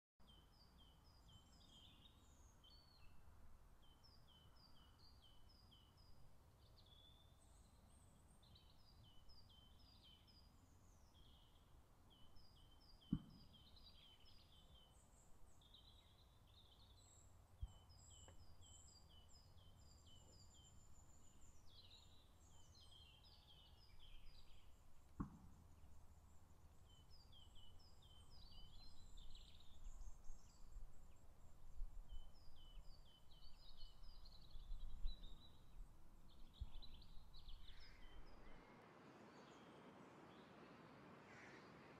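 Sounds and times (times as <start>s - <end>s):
faint songbirds singing: 0.2s - 41.9s.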